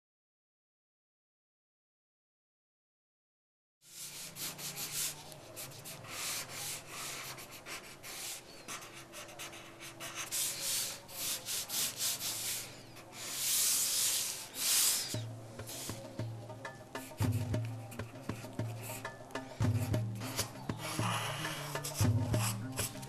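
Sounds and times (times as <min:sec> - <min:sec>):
pencil scratching on paper: 0:03.9 - 0:23.0.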